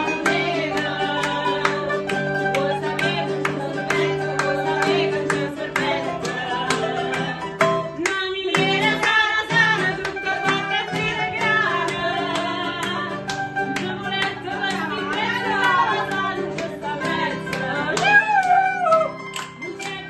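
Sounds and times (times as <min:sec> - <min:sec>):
people singing: 0:00.0 - 0:19.1
acoustic guitar playing: 0:00.0 - 0:20.0
mandolin playing: 0:00.0 - 0:20.0.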